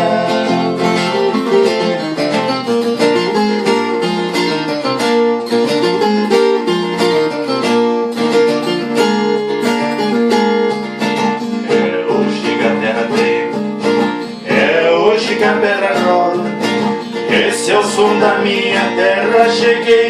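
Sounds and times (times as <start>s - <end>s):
plucked guitar riff: 0.0s - 20.0s
strummed guitar chords: 0.0s - 20.0s.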